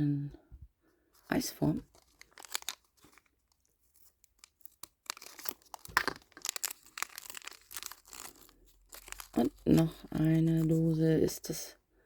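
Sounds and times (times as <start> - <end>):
plastic wrapping crinkling and tearing: 1.2 - 11.0.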